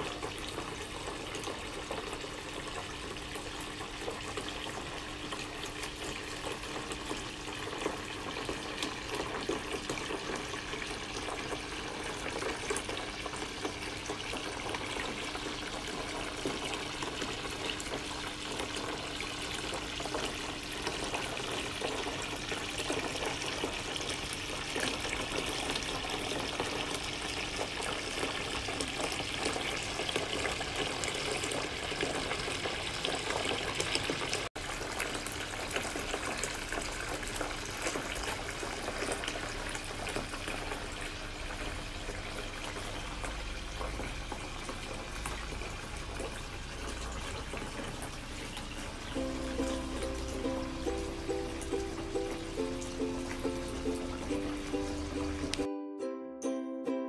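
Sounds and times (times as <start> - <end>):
running and splashing water: 0.0 - 55.7.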